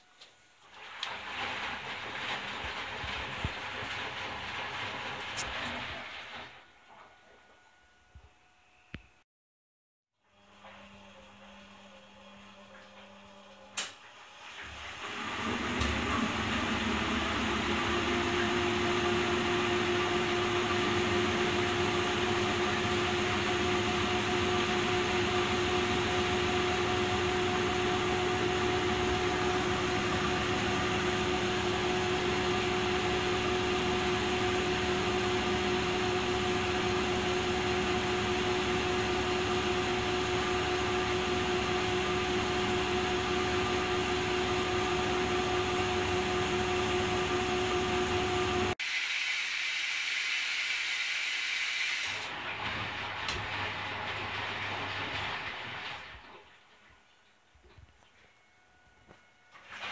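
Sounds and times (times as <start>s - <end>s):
washing machine spinning: 0.1s - 8.0s, 10.4s - 59.9s.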